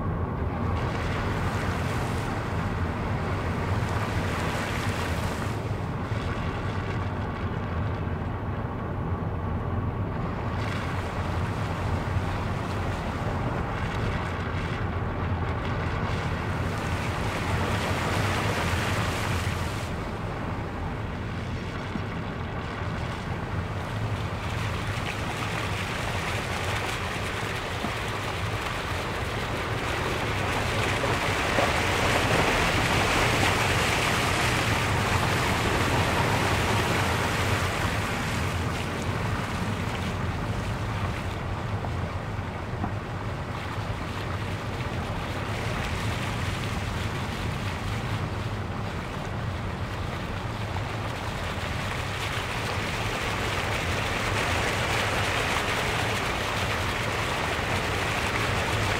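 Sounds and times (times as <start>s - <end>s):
low engine and road hum: 0.0s - 58.9s
water splashing: 10.4s - 58.9s.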